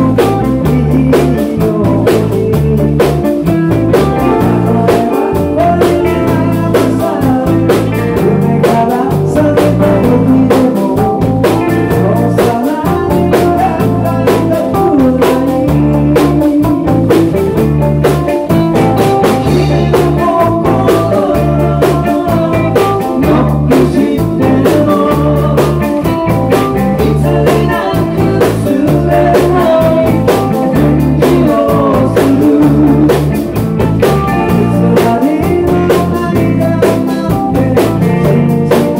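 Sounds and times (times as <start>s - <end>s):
drum kit: 0.0s - 38.9s
electric bass: 0.0s - 38.9s
electric guitars: 0.0s - 38.9s
lead vocal: 0.0s - 38.9s
backing harmony vocals: 4.1s - 16.8s, 18.9s - 38.9s.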